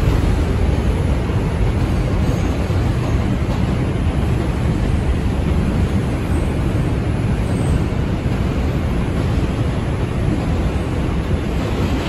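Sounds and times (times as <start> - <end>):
subway car rumbling on track: 0.0 - 12.0.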